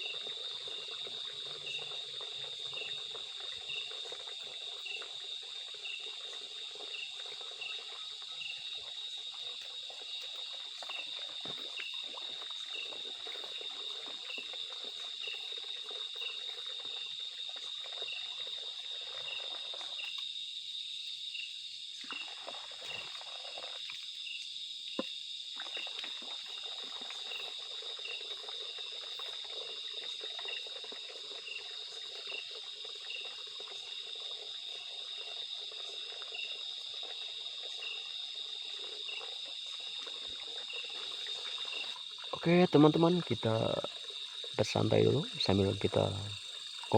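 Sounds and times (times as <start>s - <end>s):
insects calling chorus: 0.0s - 46.9s.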